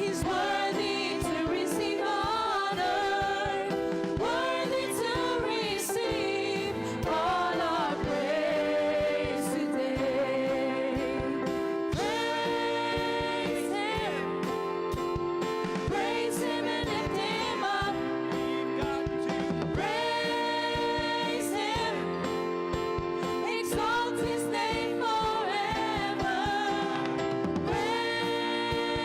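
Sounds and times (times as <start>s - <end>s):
voices singing a slow song: 0.0s - 15.0s, 15.7s - 22.5s, 23.2s - 29.0s.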